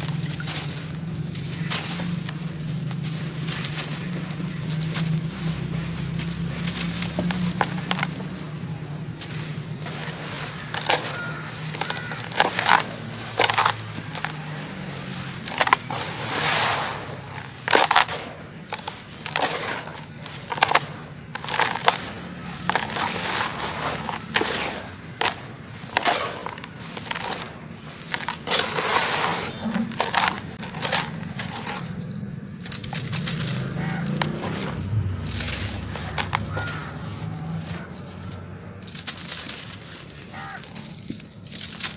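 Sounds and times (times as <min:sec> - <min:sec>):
cement chunks crunching in water: 0:00.0 - 0:41.9
gritty crumbling: 0:00.0 - 0:41.9.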